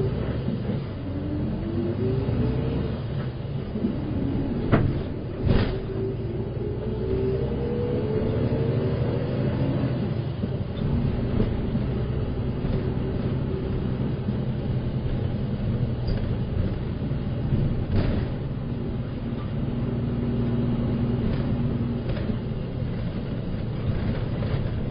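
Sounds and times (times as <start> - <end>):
bus diesel engine running: 0.0 - 24.9
rising drivetrain whine: 0.0 - 24.9.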